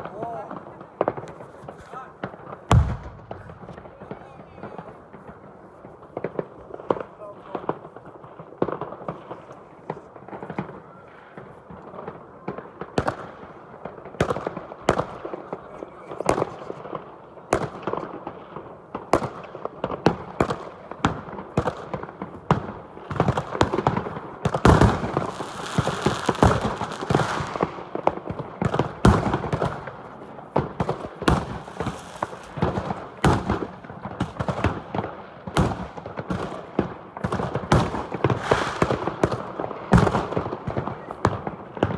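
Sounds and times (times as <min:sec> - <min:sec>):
fireworks bangs and pops: 0:00.0 - 0:41.9
fireworks crackling: 0:00.0 - 0:41.9.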